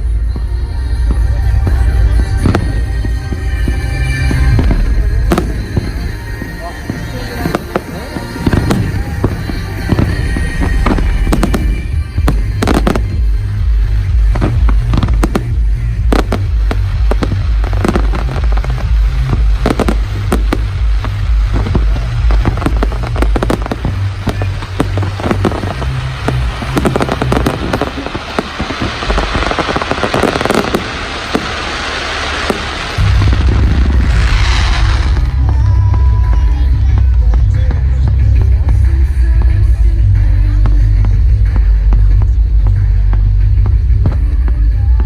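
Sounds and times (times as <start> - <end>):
deep low rumble: 0.0 - 45.0
fireworks bangs and crackles: 0.0 - 45.0.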